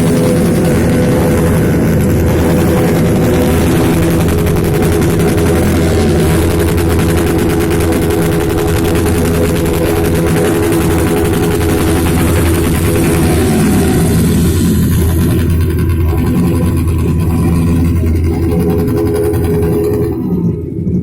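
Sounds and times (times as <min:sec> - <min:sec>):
motorcycle engine at rev limiter: 0:00.0 - 0:21.0.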